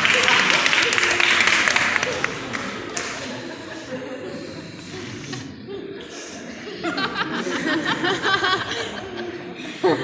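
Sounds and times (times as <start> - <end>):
audience laughing: 0.0 - 10.0
audience murmuring: 0.0 - 10.0.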